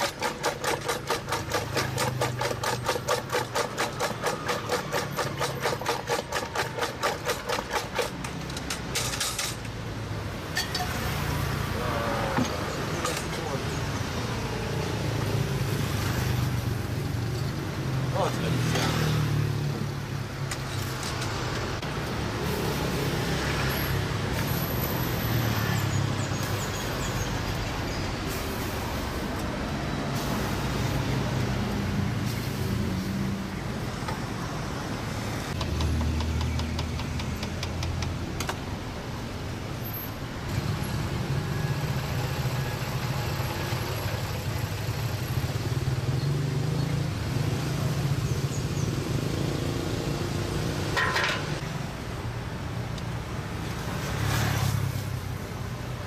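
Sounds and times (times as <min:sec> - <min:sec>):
traffic rumble: 0:00.0 - 0:56.0
vehicles passing: 0:00.0 - 0:56.0.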